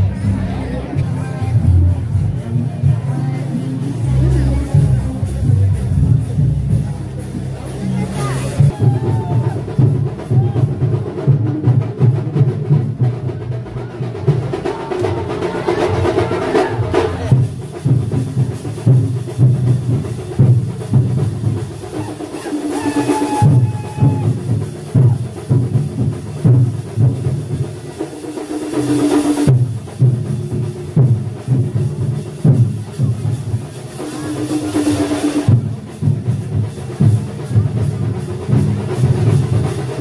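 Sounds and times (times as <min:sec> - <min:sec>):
bass drum beat: 0:00.0 - 0:28.0, 0:29.4 - 0:40.0.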